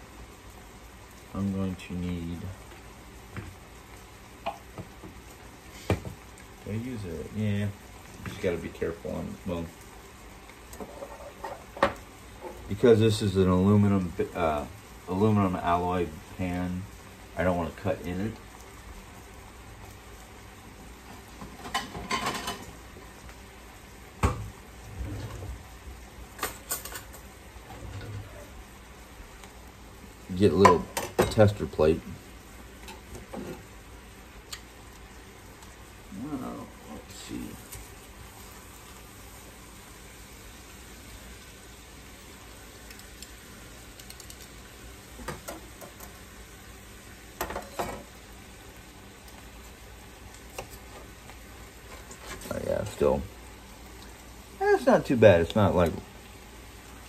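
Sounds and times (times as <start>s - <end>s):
sauce simmering in a pan: 0.0s - 57.0s.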